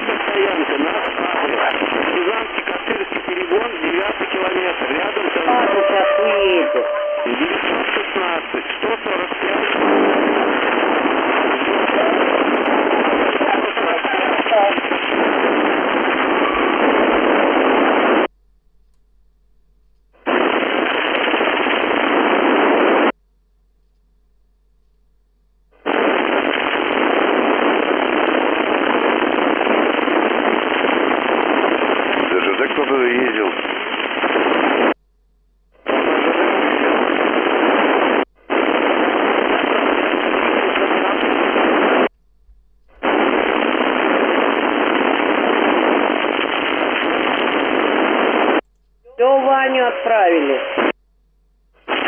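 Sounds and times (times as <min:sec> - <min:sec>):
radio static hiss: 0:00.0 - 0:18.4, 0:20.1 - 0:23.2, 0:25.7 - 0:35.0, 0:35.7 - 0:51.0, 0:51.8 - 0:52.0.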